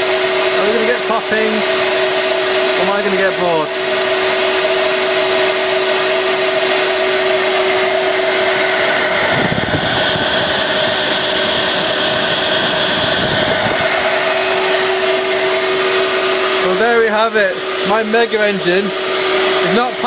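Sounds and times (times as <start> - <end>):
turbo air rushing: 0.0 - 20.0
vacuum cleaner motor whine: 0.0 - 20.0.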